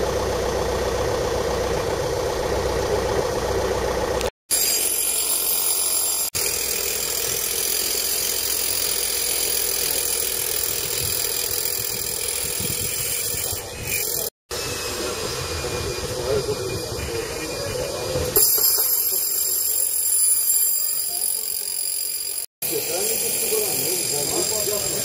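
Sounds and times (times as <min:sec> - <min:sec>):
steady mechanical engine noise: 0:00.0 - 0:25.0.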